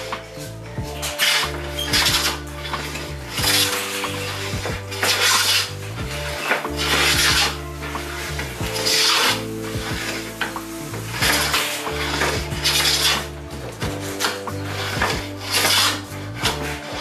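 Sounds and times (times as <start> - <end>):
background music: 0.0 - 17.0
hand plane scraping wood: 0.0 - 17.0.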